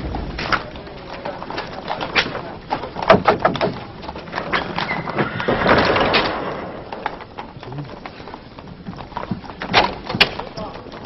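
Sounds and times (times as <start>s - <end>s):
irregular knocks and clatter: 0.0s - 11.0s
rough dense noise: 0.0s - 11.0s.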